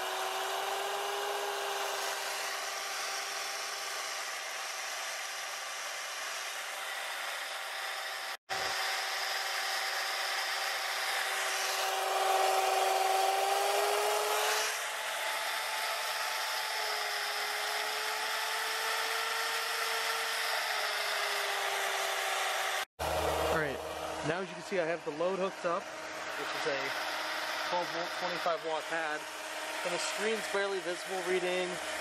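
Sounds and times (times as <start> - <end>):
turbine whine: 0.0 - 32.0.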